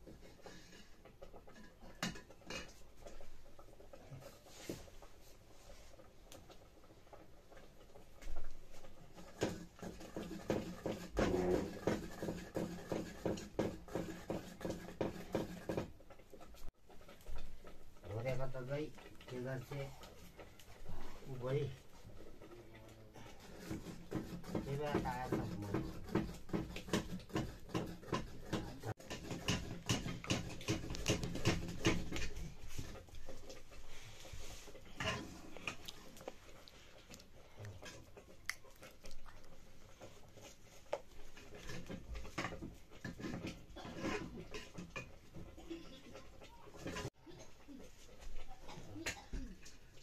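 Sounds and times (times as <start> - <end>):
ladle knocking and scraping pot: 0.0 - 5.1, 5.9 - 22.5, 23.1 - 36.4, 39.5 - 47.2.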